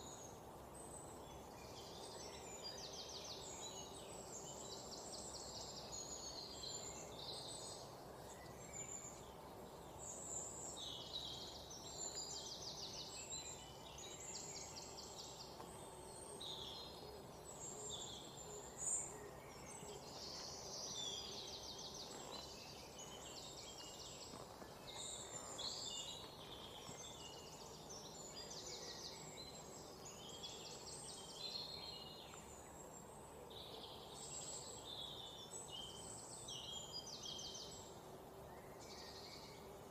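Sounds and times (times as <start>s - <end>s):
birds singing and chirping: 0.0s - 39.9s
soft background hiss: 0.0s - 39.9s.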